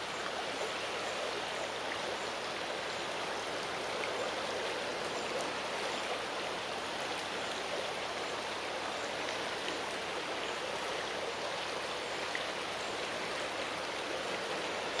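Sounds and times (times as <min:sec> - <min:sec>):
wind rustling tree foliage: 0:00.0 - 0:15.0.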